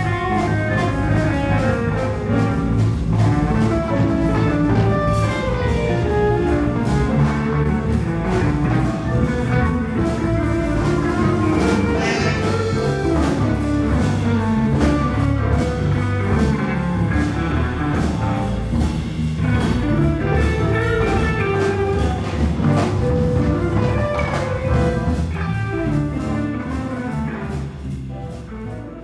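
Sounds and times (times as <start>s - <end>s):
band with bass and drums: 0.0s - 29.0s
electric guitar bluesy jazz line: 0.0s - 29.0s.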